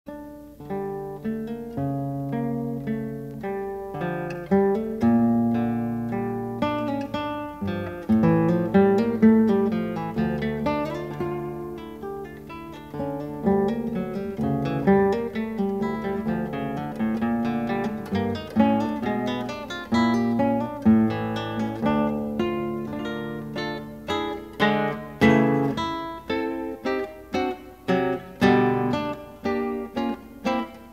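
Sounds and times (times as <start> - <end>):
acoustic guitar plucking: 0.1 - 30.9.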